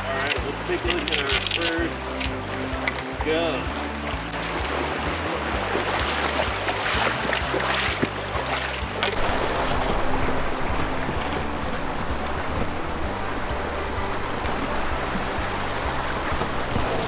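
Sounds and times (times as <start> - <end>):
background music with bass line: 0.0 - 17.0
shallow river rushing: 0.0 - 17.0.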